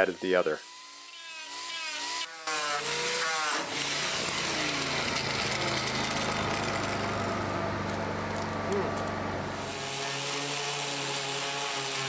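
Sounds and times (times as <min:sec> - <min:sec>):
angle grinder sanding metal: 0:00.0 - 0:07.4, 0:09.4 - 0:12.0
sanding disc bursting: 0:00.0 - 0:07.4, 0:09.5 - 0:12.0.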